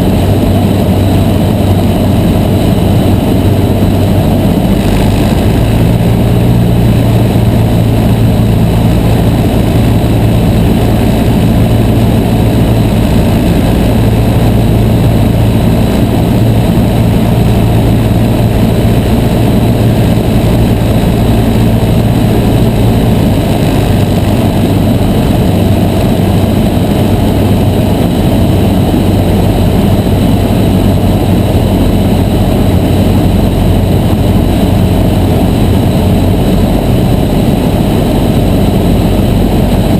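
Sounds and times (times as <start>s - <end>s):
small plane engine and propeller: 0.0s - 39.9s.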